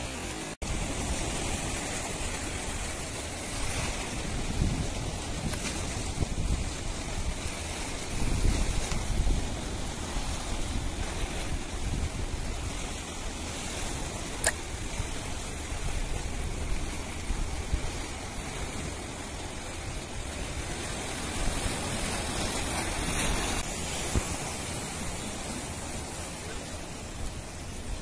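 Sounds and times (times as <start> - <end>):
sea waves rushing: 0.0 - 28.0
wind rumbling on microphone: 0.0 - 28.0.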